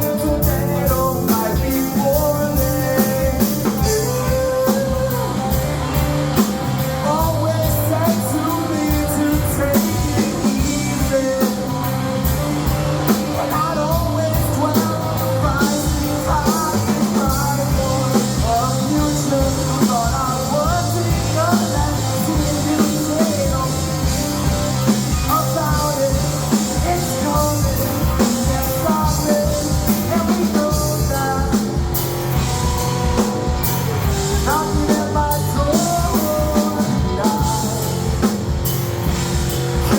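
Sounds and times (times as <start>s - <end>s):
drum kit beat: 0.0s - 39.9s
melodic guitar lead line: 0.0s - 39.9s
rock band playing: 0.0s - 39.9s.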